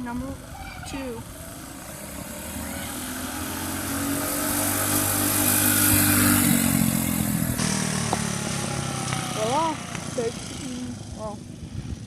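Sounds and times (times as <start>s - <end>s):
mini bike engine at full throttle: 0.0s - 12.0s.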